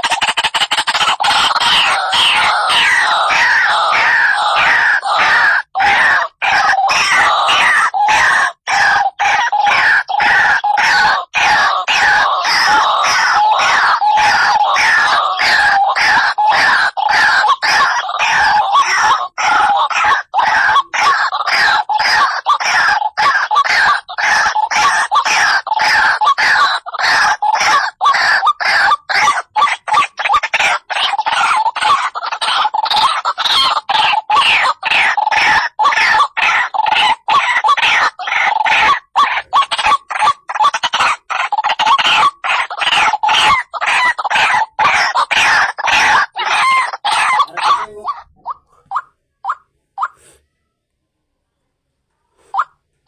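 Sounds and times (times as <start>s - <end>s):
bird squawking in distress: 0.0s - 50.4s.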